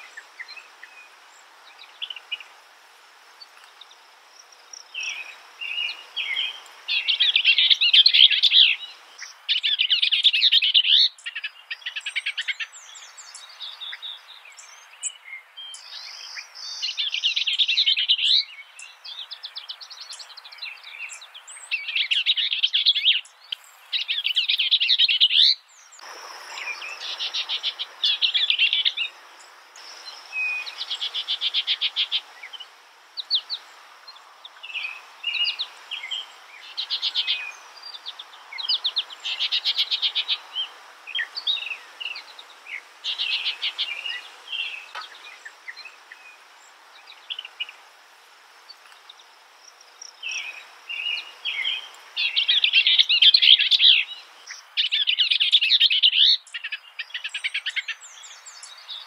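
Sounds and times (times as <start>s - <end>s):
songbird singing trills: 0.0s - 2.6s, 3.4s - 47.8s, 48.6s - 59.0s
background hiss: 0.0s - 59.0s.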